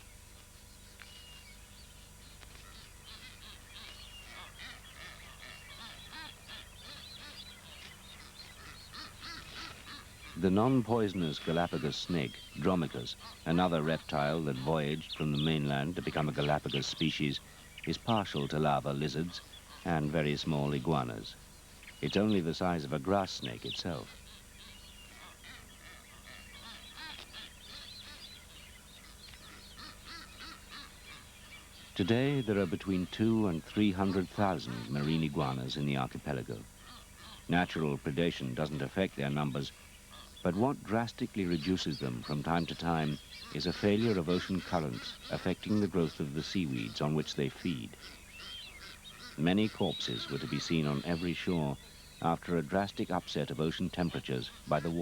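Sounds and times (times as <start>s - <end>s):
birds chirping and squawking: 0.0s - 55.0s
low steady hum: 0.0s - 55.0s.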